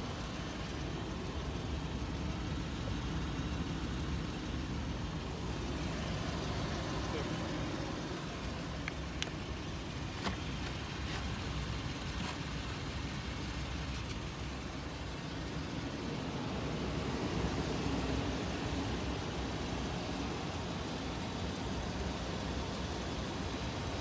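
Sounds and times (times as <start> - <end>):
engine low rumble: 0.0 - 24.0.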